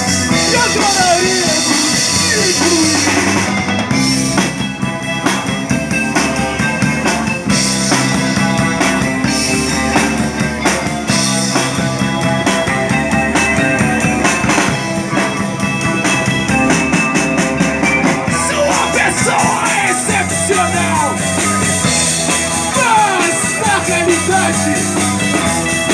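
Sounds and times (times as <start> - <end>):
bass and guitar tones: 0.0 - 25.9
drum kit beat: 0.0 - 25.9.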